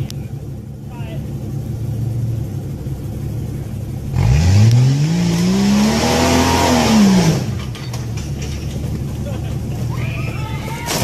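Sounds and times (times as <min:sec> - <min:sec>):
engine idling and revving: 0:00.0 - 0:11.0.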